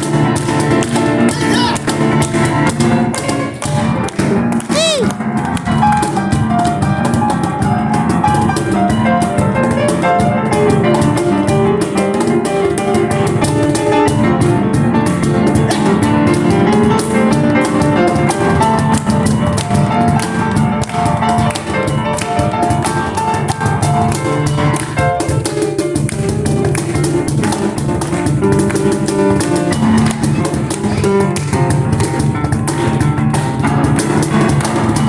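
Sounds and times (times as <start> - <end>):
cajon beat: 0.0 - 35.0
piano playing melody and chords: 0.0 - 35.0.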